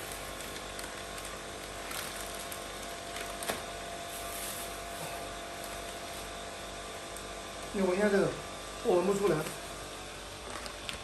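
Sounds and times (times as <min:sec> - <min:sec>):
electric hum with hiss: 0:00.0 - 0:11.0.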